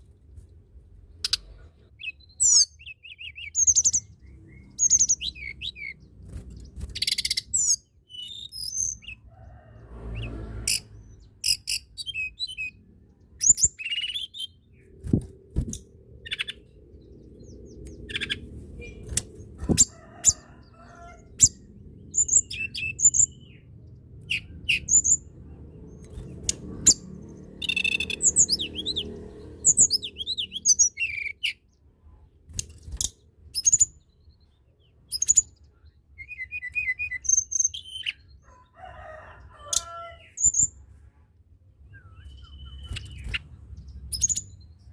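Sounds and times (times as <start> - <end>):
songbird chirps and trills: 0.0 - 44.9.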